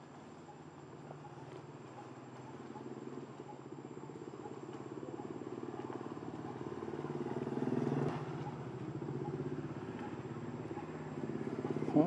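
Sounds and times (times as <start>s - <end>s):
engine pulsing hum: 0.0s - 12.0s.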